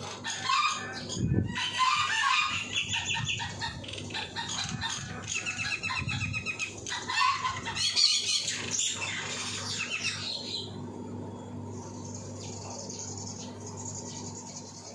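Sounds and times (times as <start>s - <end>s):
birds calling and chattering: 0.0s - 14.9s
faint low hum: 0.0s - 14.9s.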